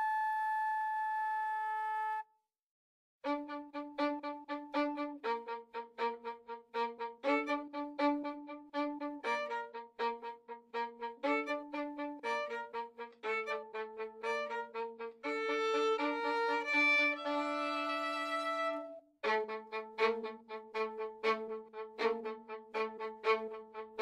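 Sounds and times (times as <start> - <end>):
instrumental music: 3.2 - 24.0.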